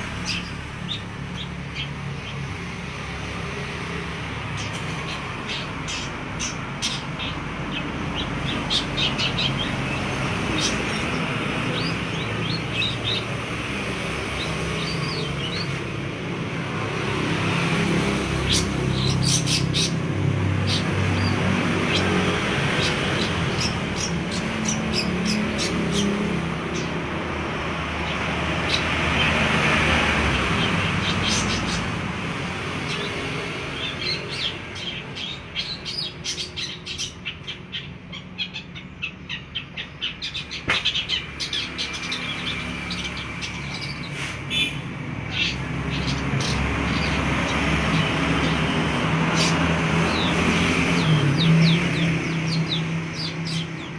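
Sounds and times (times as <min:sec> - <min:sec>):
shrike calling and chattering: 0:00.0 - 0:16.6, 0:17.8 - 0:53.9.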